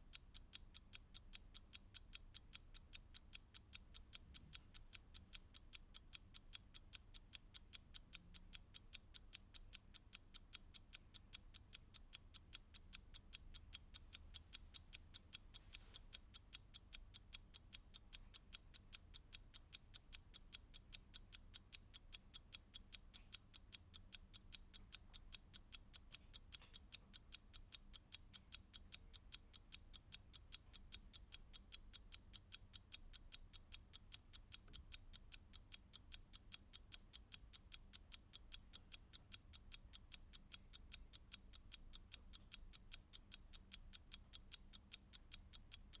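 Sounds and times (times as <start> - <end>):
mechanical clock ticking: 0.0 - 46.0.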